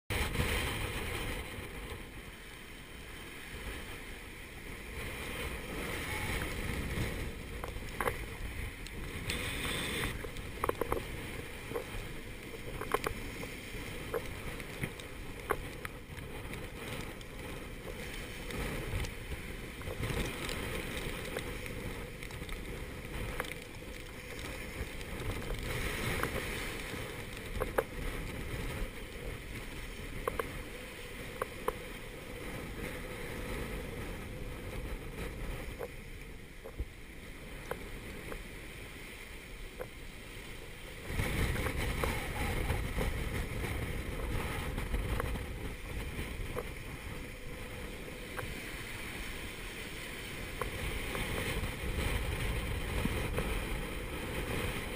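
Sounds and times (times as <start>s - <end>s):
breaking seas rushing: 0.1s - 54.9s
gale-force wind: 0.1s - 54.9s.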